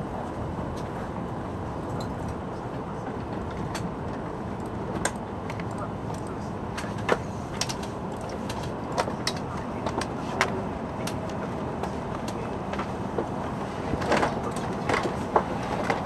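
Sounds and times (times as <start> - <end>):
train car humming: 0.0 - 16.0.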